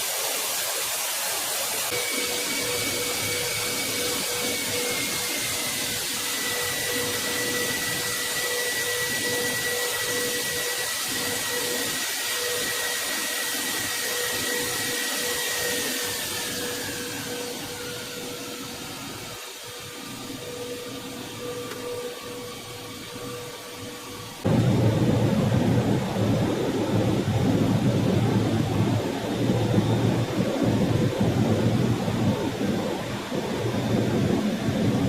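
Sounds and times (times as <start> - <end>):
jet engines roaring and whining: 0.0 - 35.0.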